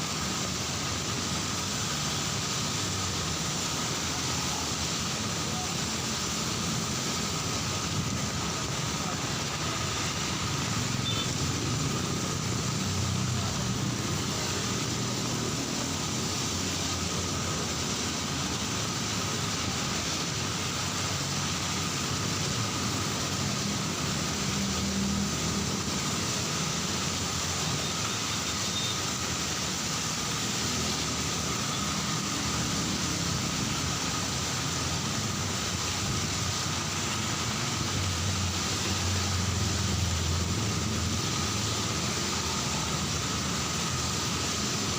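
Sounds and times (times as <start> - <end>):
heavy rain falling: 0.0 - 44.9
road traffic: 0.0 - 44.9.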